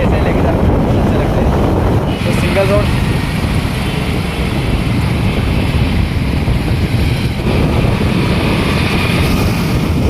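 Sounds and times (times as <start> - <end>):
motorcycle engine: 0.0 - 10.0
road noise: 0.0 - 10.0
wind rush over microphone: 0.0 - 10.0.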